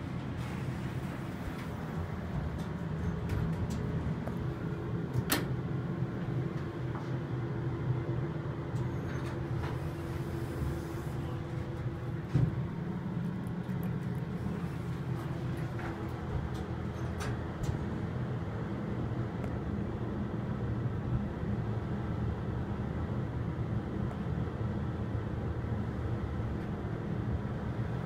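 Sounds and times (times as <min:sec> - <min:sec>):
elevator low rumble: 0:00.0 - 0:28.0.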